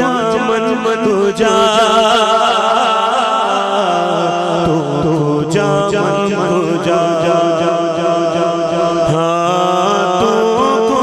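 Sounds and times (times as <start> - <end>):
man singing through pa system: 0.0 - 11.0.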